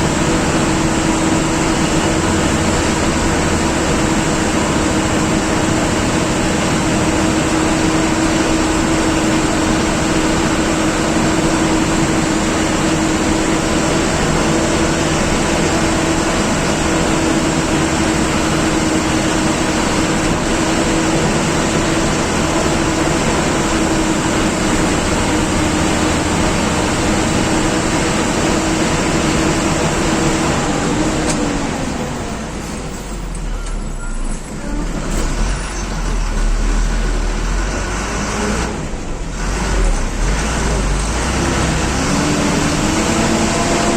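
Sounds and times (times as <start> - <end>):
bus diesel engine drone: 0.0 - 43.9
road noise: 0.0 - 43.9.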